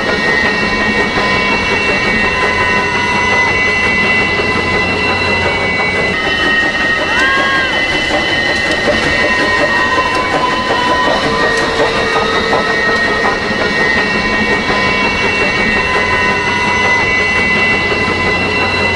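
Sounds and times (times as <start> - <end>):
train wheels rumbling on rails: 0.0 - 18.9
wheels clickety-clack: 0.0 - 18.9.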